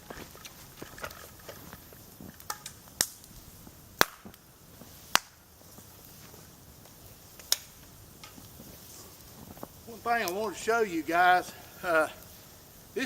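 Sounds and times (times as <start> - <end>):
dry wood cracking: 0.0 - 13.0.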